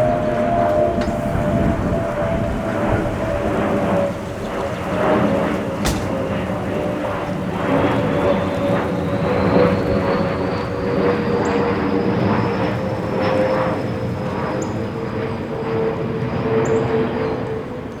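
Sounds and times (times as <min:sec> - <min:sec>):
aircraft whistling whine: 0:00.0 - 0:18.0
jet engine noise: 0:00.0 - 0:18.0.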